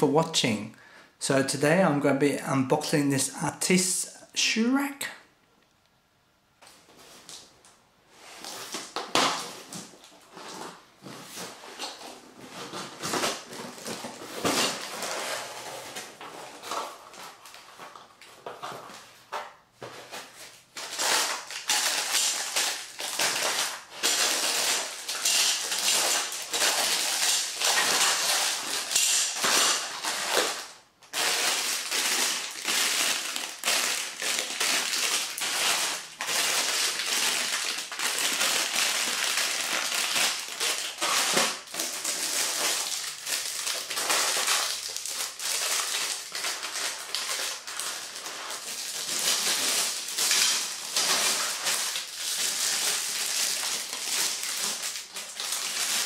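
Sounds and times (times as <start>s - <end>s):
plastic wrapping crinkling: 8.2s - 56.0s.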